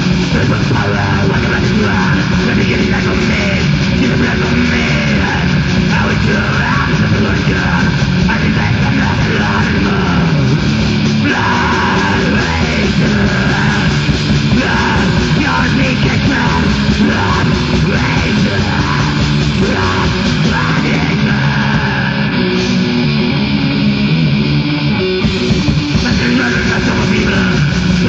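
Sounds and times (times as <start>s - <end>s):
distorted electric guitar: 0.0s - 28.0s
drums: 0.0s - 28.0s
heavy metal band playing: 0.0s - 28.0s.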